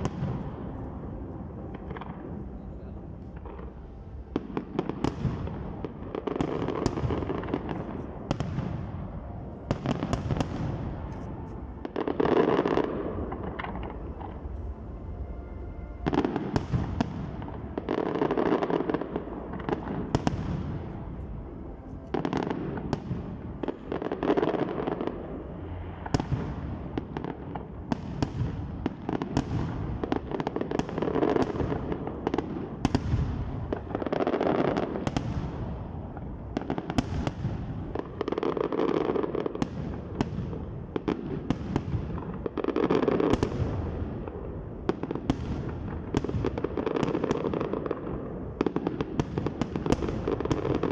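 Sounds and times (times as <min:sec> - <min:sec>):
fireworks bangs and crackling: 0:00.0 - 0:14.7, 0:15.8 - 0:50.9.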